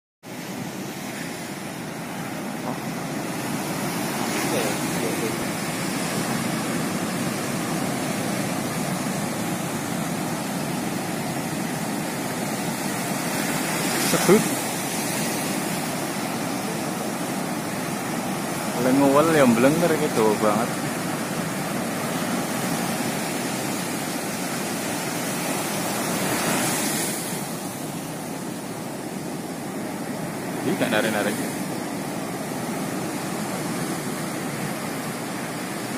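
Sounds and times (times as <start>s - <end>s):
ocean surf breaking: 0.3s - 35.9s.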